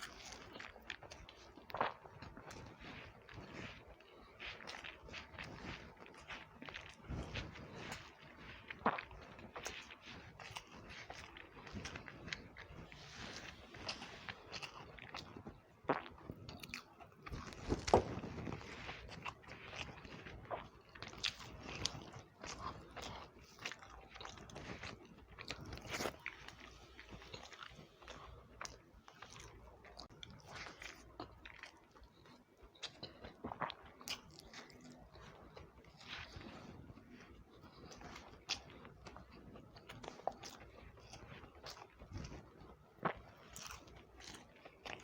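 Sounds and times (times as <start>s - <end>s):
person chewing with mouth smacks: 0.0s - 45.0s.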